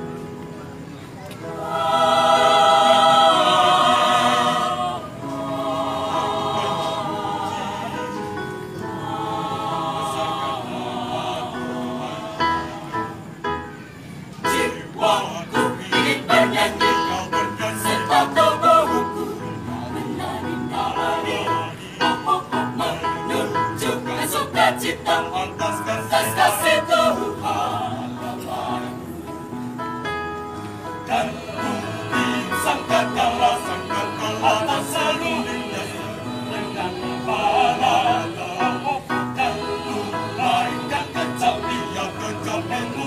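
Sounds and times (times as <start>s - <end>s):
mixed choir singing: 1.4s - 13.7s, 14.4s - 43.0s.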